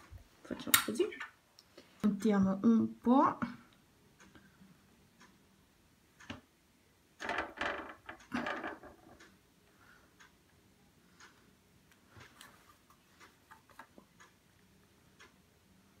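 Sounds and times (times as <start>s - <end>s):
clock ticking faintly: 0.5s - 16.0s.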